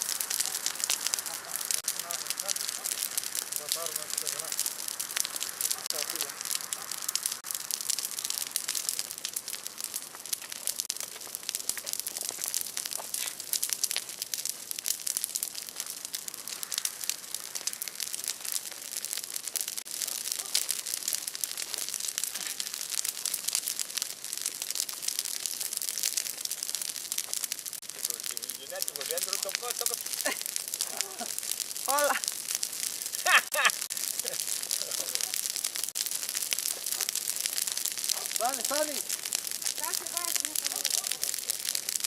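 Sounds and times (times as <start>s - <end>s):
bonfire crackling: 0.0s - 42.0s.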